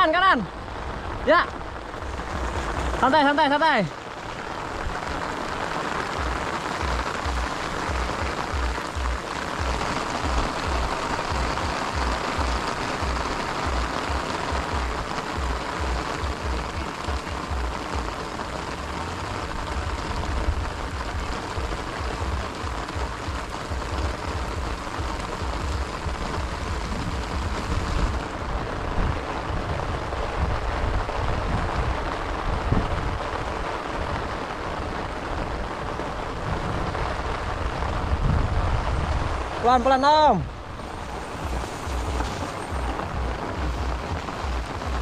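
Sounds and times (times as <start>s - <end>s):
steady hiss: 0.0s - 45.0s
wind rumble on camera: 0.0s - 45.0s.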